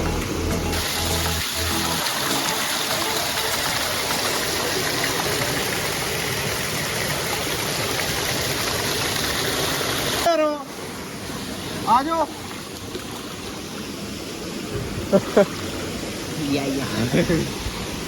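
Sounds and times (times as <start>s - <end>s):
waterfall rushing: 0.4s - 18.0s.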